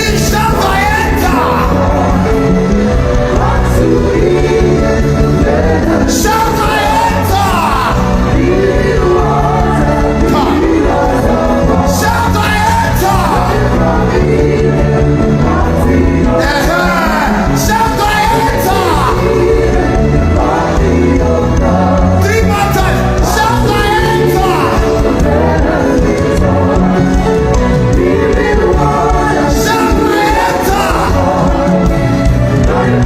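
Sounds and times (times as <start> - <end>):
worship music with singing: 0.0 - 33.0.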